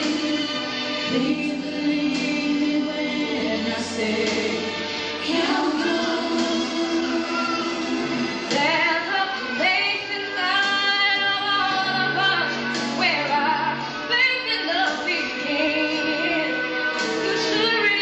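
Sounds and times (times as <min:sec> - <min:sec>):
woman singing with music: 0:00.0 - 0:18.0.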